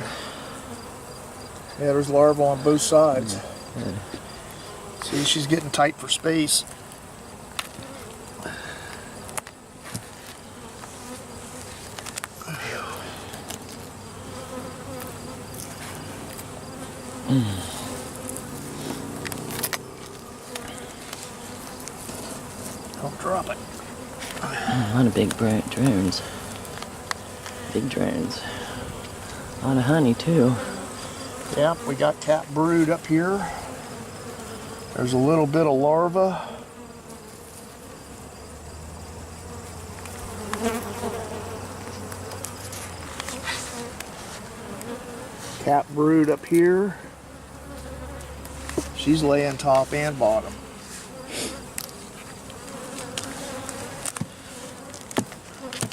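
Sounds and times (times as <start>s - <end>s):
bees buzzing: 0.0s - 55.9s.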